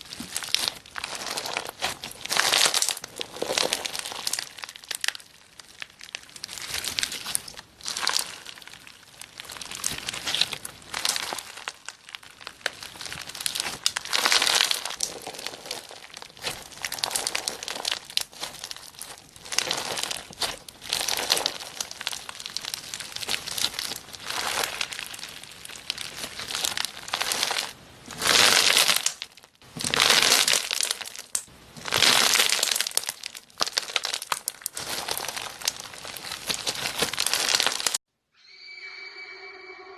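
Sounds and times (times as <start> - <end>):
slime crackling by hand: 0.0 - 38.0.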